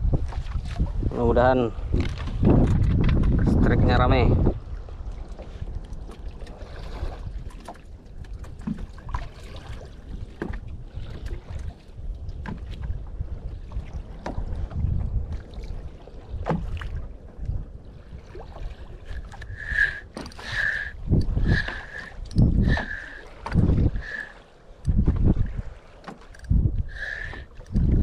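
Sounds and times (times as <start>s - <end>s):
water lapping against boat: 0.0s - 28.0s
wind rumbling on microphone: 0.0s - 28.0s.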